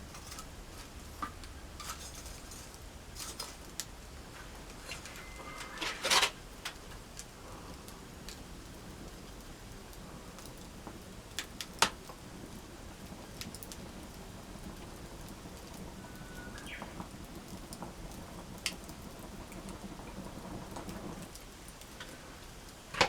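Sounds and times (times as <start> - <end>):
campfire hissing: 0.0 - 23.0
fire pops and crackles: 0.0 - 23.0.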